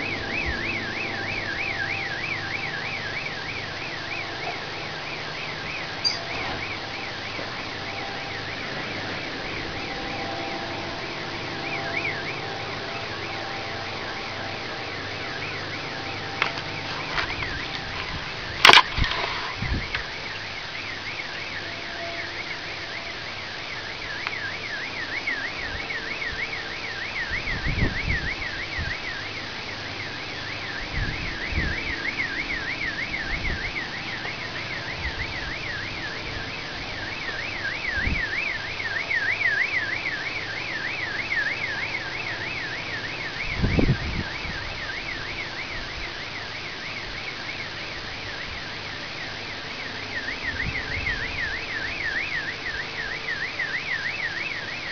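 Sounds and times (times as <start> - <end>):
car alarm siren warbling: 0.0 - 54.9.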